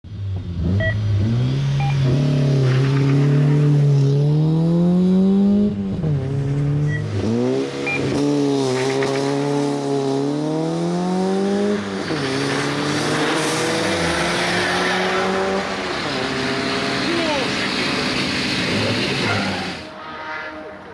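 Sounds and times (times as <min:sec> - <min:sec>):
race car engine revving: 0:00.1 - 0:20.9.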